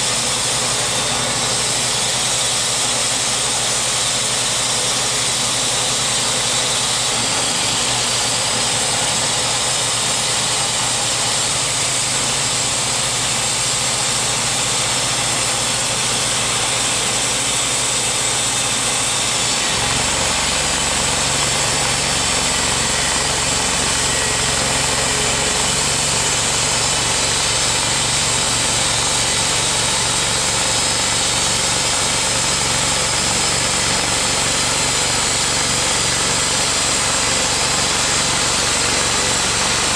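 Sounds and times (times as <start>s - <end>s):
bandsaw mill running: 0.0s - 39.9s
saw blade cutting log: 0.0s - 39.9s.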